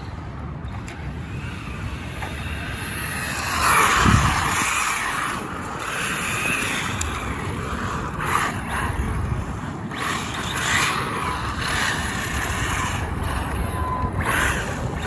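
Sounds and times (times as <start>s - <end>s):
rc car motor and tyres rushing: 0.0s - 15.0s.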